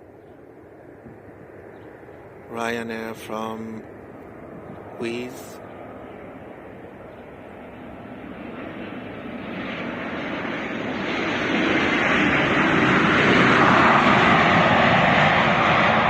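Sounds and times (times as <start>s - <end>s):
jet airliner engine roar: 0.0s - 16.0s.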